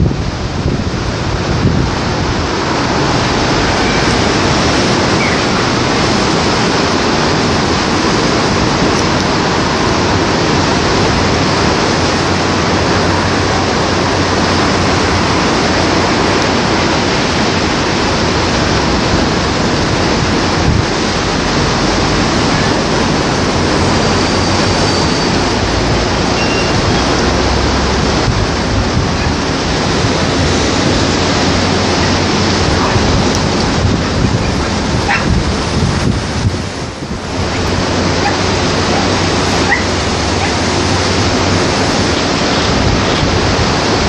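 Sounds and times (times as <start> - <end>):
sea surf breaking: 0.0 - 44.0
wind: 0.0 - 44.0.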